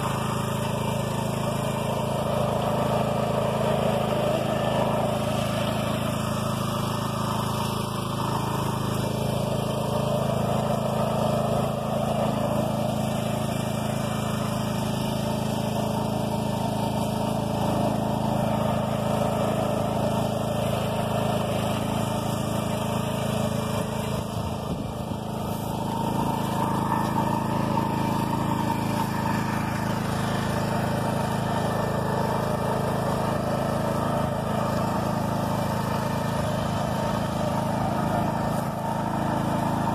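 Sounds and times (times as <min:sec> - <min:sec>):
walk-behind tractor engine running: 0:00.0 - 0:39.9.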